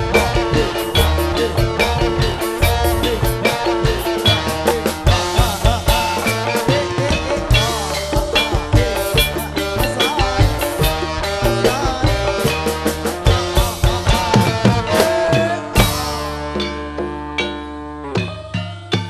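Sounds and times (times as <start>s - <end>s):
bending melody notes: 0.0s - 19.0s
drums beating fast rhythm: 0.0s - 19.0s.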